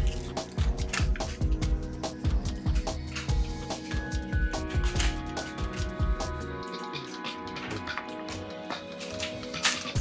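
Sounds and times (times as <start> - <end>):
background jazz music: 0.0 - 10.0.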